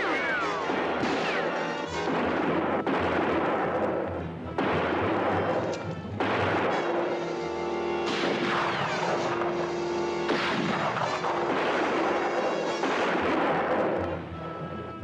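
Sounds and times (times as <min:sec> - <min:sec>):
gunshots echoing: 0:00.0 - 0:14.3.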